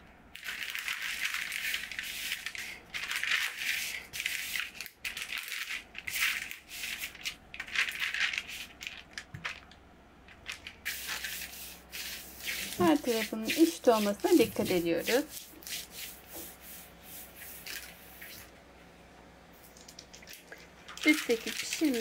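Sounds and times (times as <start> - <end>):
baking paper crinkling: 0.4 - 15.4, 17.2 - 18.5, 19.7 - 22.0.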